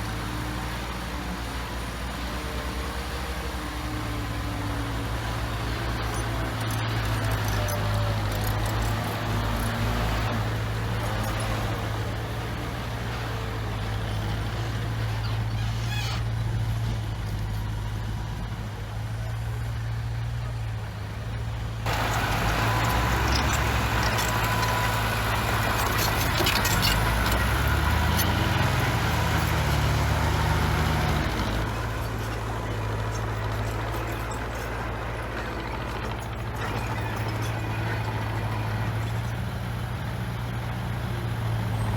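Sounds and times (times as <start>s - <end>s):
heavy machinery diesel engines: 0.0s - 41.9s.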